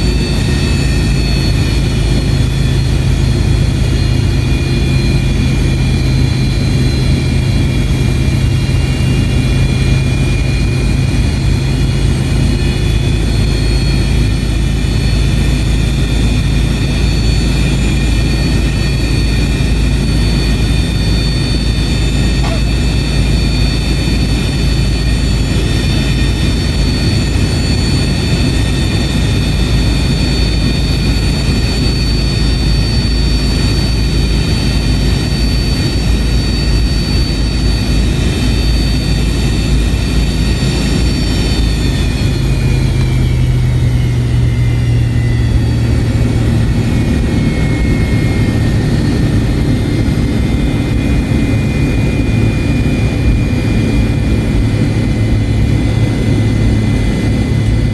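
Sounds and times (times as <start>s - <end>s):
jet engine rumble and whine: 0.0s - 57.9s.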